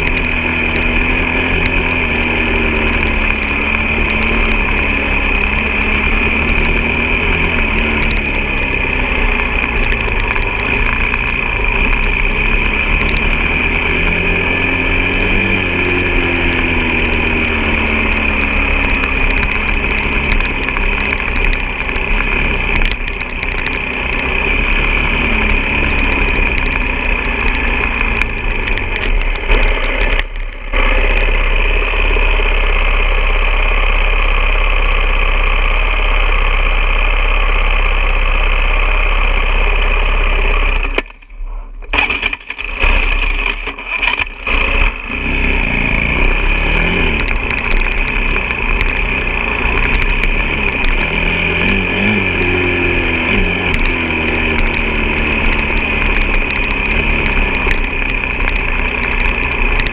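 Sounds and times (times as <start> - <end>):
motorcycle engine revving: 0.0 - 41.1, 41.9 - 59.9.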